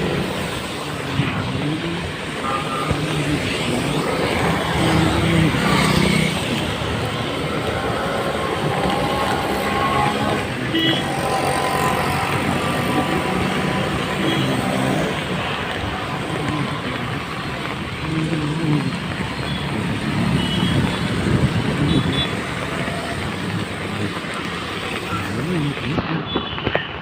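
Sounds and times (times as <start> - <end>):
faint voices: 0.0 - 27.0
passing road traffic: 0.0 - 27.0.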